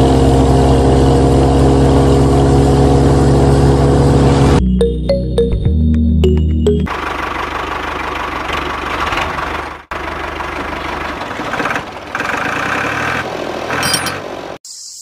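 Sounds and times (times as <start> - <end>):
engine-like mechanical running: 0.0 - 4.6, 6.8 - 14.6.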